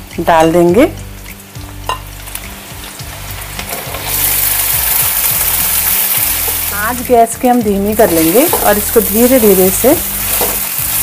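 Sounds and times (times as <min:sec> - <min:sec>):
food sizzling in hot fat: 0:00.0 - 0:11.0
loud hissing sizzle: 0:01.0 - 0:11.0.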